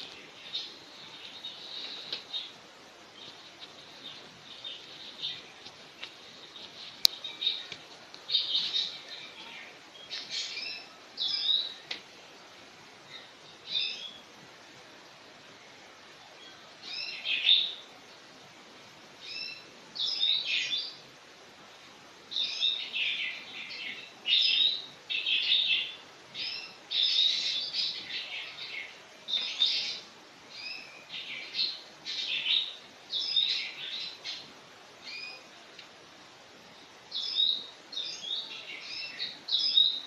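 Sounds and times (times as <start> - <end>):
faint steady hiss: 0.0 - 40.0
small birds chirping: 0.0 - 40.0.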